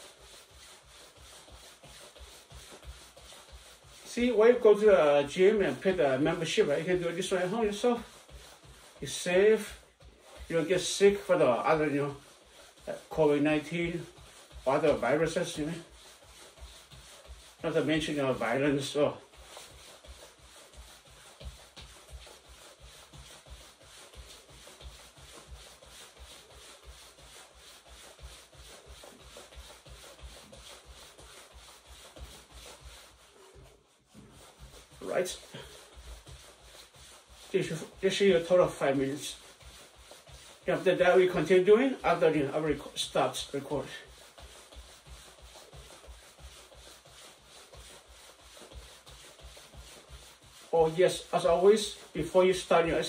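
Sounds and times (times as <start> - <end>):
jacket fabric swishing: 0.0 - 53.0
soft footfalls jogging in place: 0.0 - 53.0.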